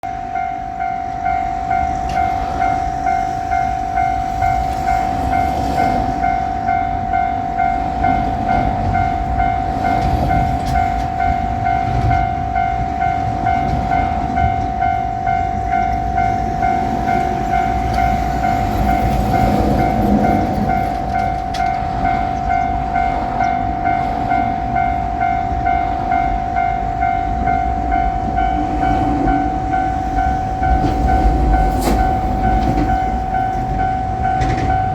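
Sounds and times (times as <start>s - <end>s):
level-crossing warning bell: 0.0s - 34.9s
train rumble: 0.0s - 34.9s.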